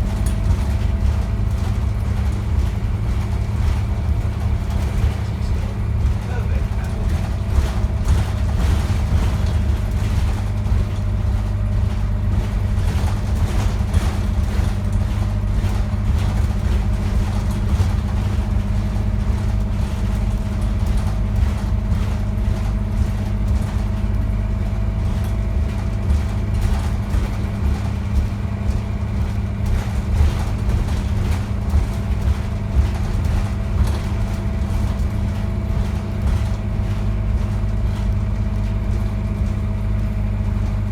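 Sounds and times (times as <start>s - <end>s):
bus engine and road rumble: 0.0s - 40.9s
rattles and knocks: 0.0s - 40.9s.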